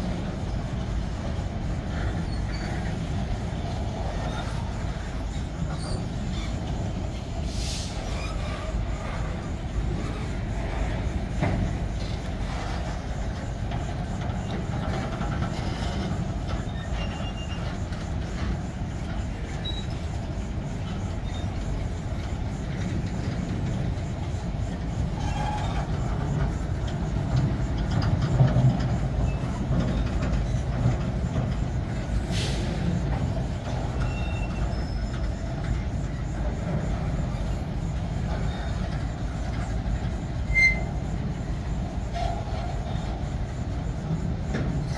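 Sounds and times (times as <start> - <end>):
freight wagons rumbling on rails: 0.0 - 44.9
wheel squeals: 1.6 - 44.9.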